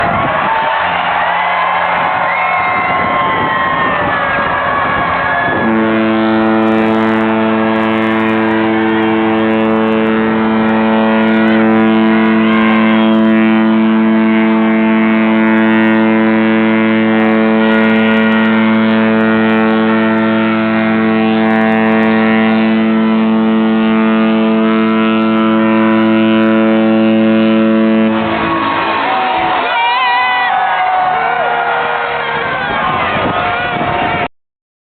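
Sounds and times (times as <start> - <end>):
ship's air horn blast: 0.0 - 34.3.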